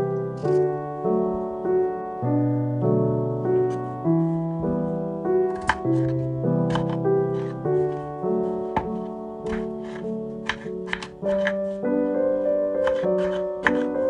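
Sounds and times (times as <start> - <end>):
solo piano melody: 0.0 - 14.0.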